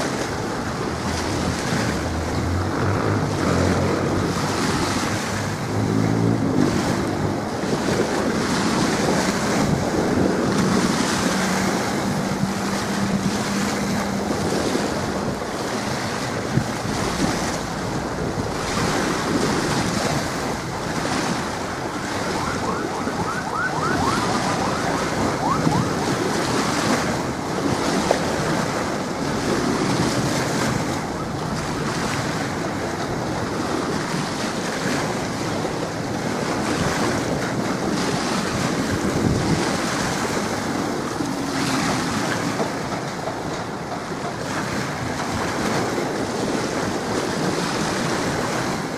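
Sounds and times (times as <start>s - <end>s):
waves washing in: 0.0s - 48.9s
wind buffeting microphone: 0.0s - 48.9s.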